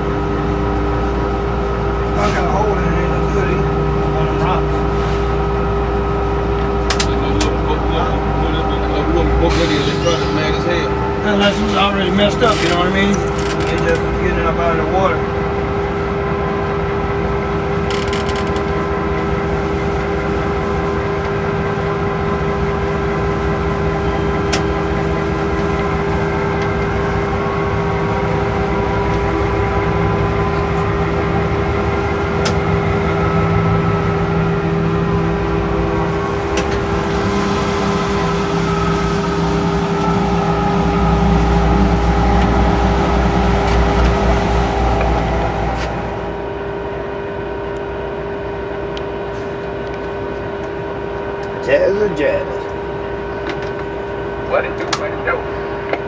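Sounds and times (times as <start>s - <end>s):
constant hum: 0.0s - 56.0s
locomotive engine: 0.0s - 56.0s
rail noise: 0.0s - 56.0s.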